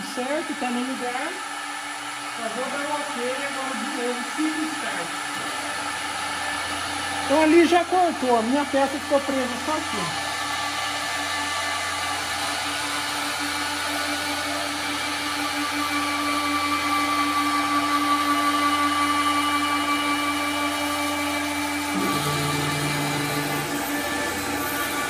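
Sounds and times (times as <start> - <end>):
router spindle whining: 0.0 - 25.0.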